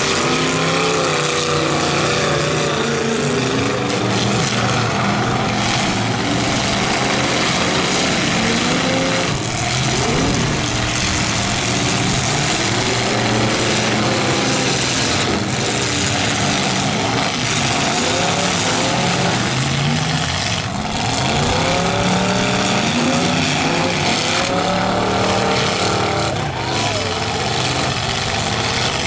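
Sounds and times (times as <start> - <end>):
car engines revving hard: 0.0 - 29.0
cars ramming each other: 0.0 - 29.0.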